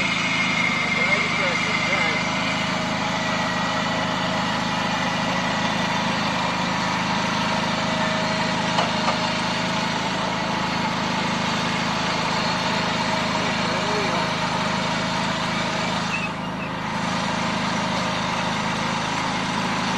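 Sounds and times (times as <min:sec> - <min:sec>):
lawn tractor engine running: 0:00.0 - 0:19.9.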